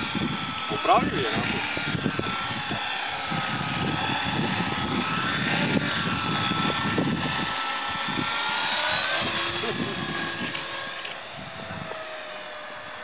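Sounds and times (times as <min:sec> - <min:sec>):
model helicopter high whine: 0:00.0 - 0:13.0.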